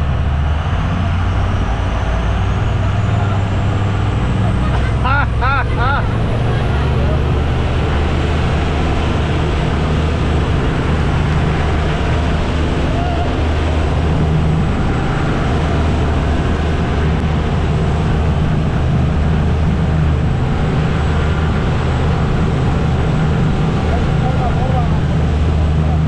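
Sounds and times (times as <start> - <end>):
engine droning steadily: 0.0 - 26.0.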